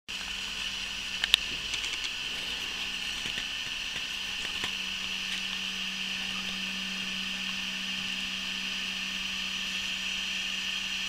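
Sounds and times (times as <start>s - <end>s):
steady hiss with low hum: 0.1s - 11.0s.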